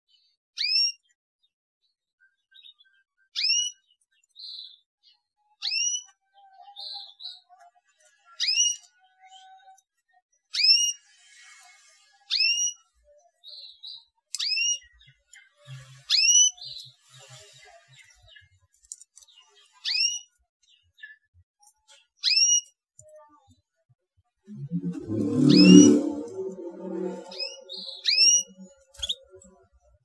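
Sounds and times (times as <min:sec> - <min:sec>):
canary chirps: 0:00.1 - 0:01.2, 0:02.2 - 0:07.6, 0:08.3 - 0:09.8, 0:10.4 - 0:11.1, 0:12.3 - 0:22.8, 0:24.5 - 0:29.6.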